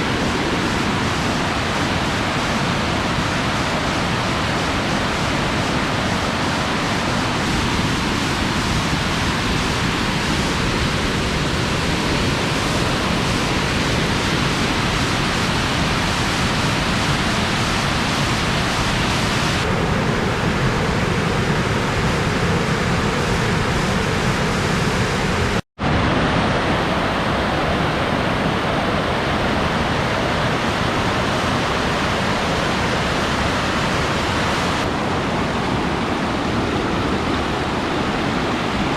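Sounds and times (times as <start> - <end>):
rushing falling water: 0.0 - 38.9.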